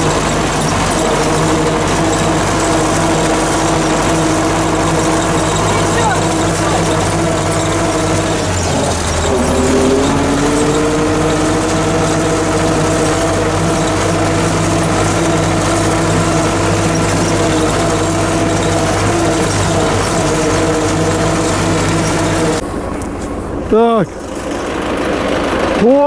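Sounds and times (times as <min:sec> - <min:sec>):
steady whine: 0:00.0 - 0:26.0
tractor diesel engine running: 0:00.0 - 0:26.0.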